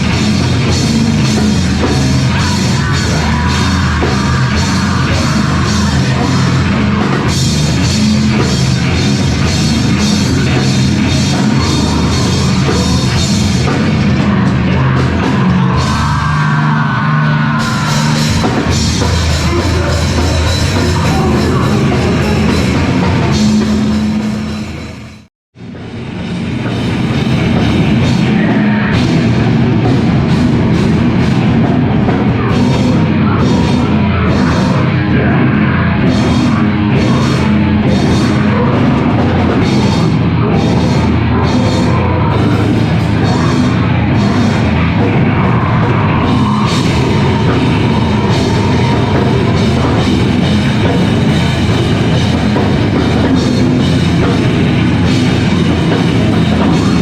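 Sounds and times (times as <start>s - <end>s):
drum kit: 0.0s - 57.0s
heavy rock band playing: 0.0s - 57.0s.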